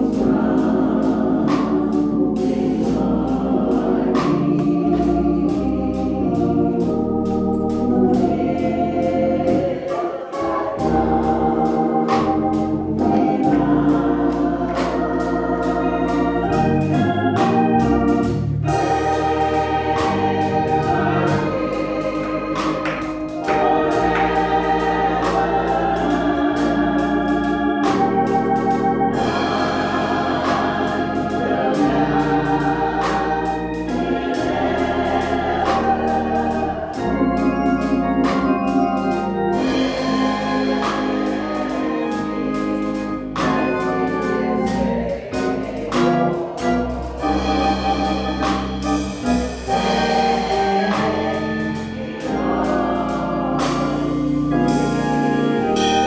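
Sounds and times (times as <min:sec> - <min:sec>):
electric organ chords: 0:00.0 - 0:56.0
low bass: 0:10.8 - 0:56.0.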